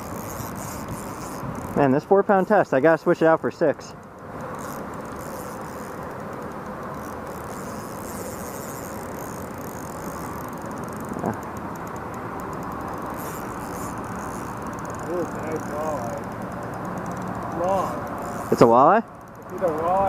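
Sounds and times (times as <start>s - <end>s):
fishing reel whirring: 0.0s - 20.0s.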